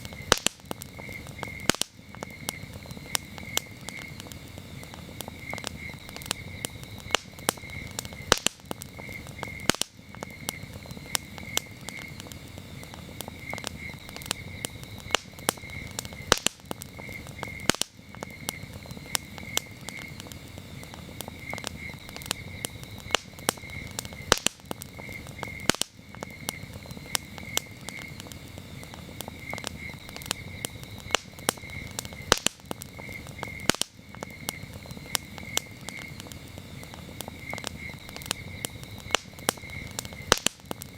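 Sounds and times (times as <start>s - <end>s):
campfire crackling and popping: 0.0s - 40.9s
crickets chirping: 0.0s - 40.9s.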